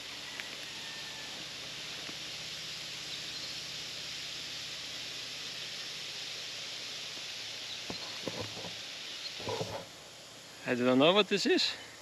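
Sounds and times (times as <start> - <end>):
high hissing buzz: 0.0 - 12.0.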